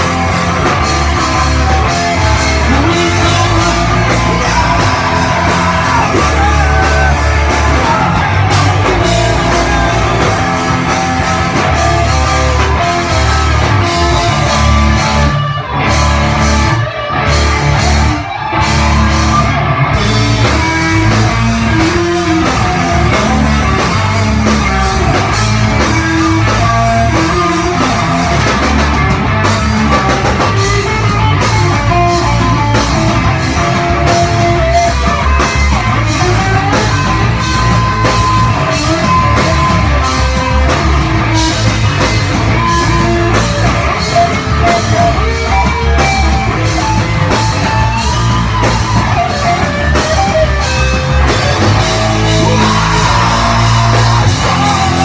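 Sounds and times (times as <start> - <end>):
drum kit: 0.0 - 55.0
electric guitar: 0.0 - 55.0
rock band playing: 0.0 - 55.0.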